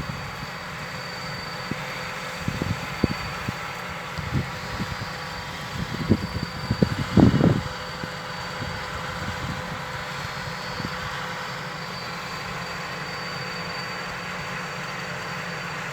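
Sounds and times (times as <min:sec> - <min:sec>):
excavator engine running: 0:00.0 - 0:15.9
thin steady whine: 0:00.0 - 0:15.9.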